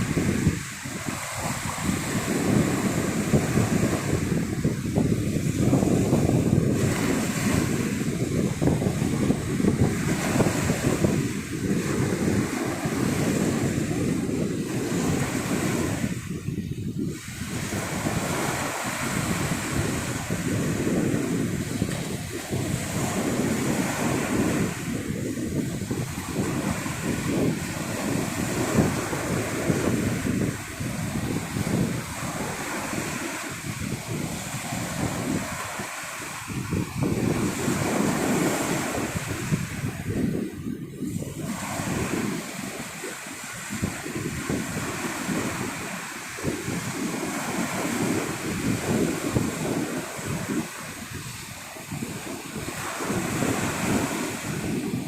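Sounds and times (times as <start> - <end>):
surf washing onto beach: 0.0 - 55.0
wind buffeting microphone: 0.0 - 55.0.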